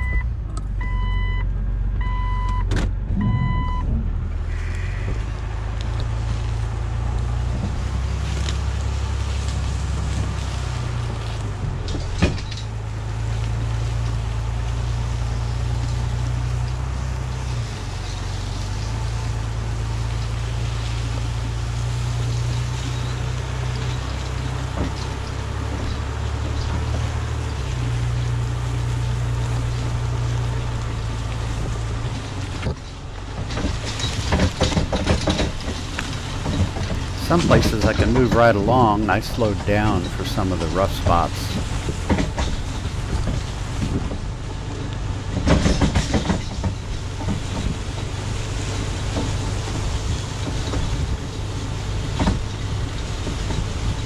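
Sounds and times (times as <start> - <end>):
car engine droning: 0.0 - 54.0
dense rattling and knocks: 2.7 - 54.0.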